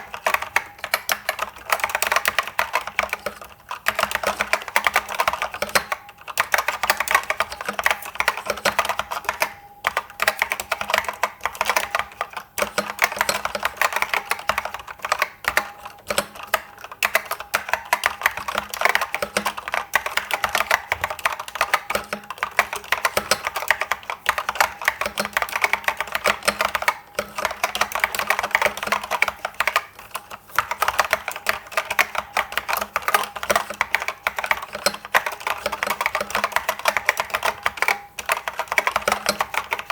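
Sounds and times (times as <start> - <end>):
fast keyboard typing clicks: 0.0 - 39.9.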